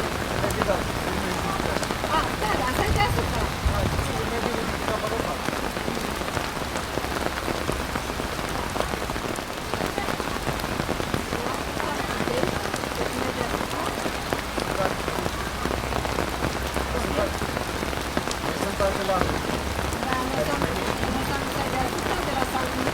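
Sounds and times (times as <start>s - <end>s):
pouring rain: 0.0s - 22.9s.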